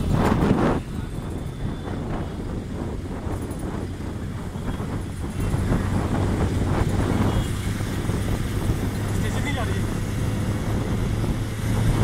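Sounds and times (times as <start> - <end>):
bus engine hum: 0.0 - 12.0
road rumble: 0.0 - 12.0
wind: 0.0 - 12.0.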